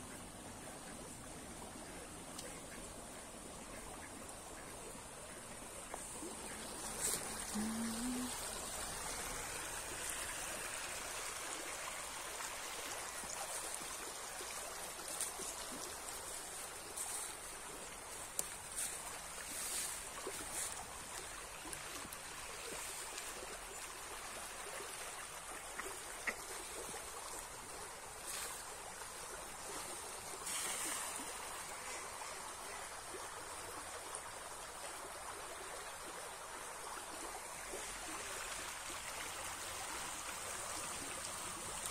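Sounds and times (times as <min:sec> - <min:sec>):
stream rippling over stones: 0:00.0 - 0:41.9.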